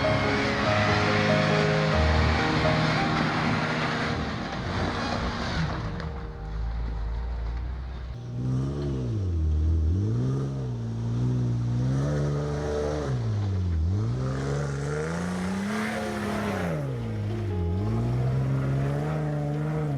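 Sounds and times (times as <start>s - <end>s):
engine-like drone revving: 0.0s - 19.9s.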